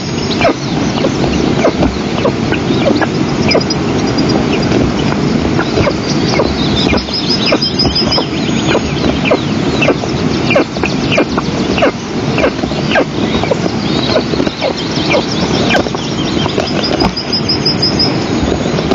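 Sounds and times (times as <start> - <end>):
eagle chicks begging calls: 0.0 - 18.9.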